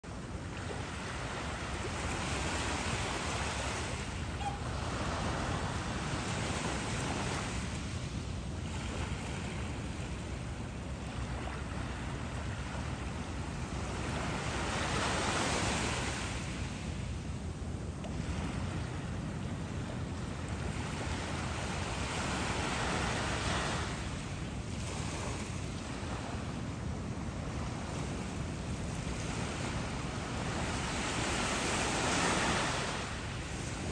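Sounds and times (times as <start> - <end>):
small ocean waves washing in: 0.1 - 33.9.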